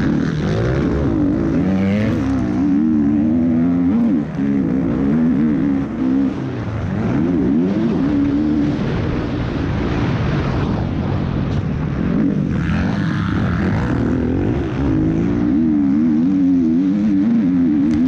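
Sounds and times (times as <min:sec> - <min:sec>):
motocross bike engine revving: 0:00.0 - 0:10.2, 0:11.9 - 0:18.0.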